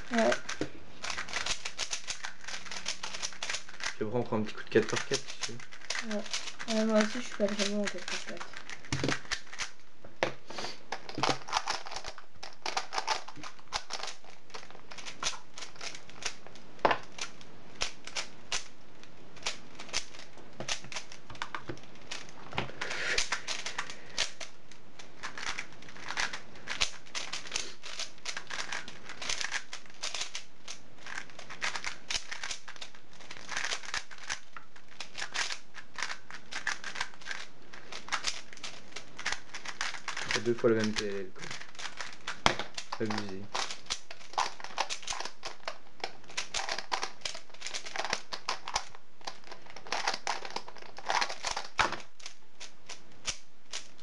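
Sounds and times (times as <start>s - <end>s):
puzzle cube clicking: 0.0s - 9.8s, 10.4s - 54.0s.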